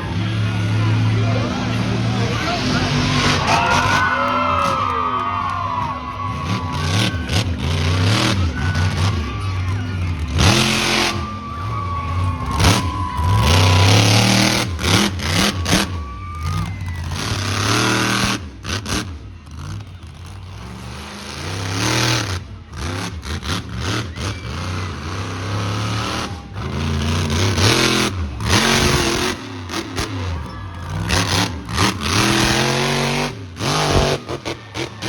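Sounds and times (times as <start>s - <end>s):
monster truck engines revving: 0.0s - 35.0s.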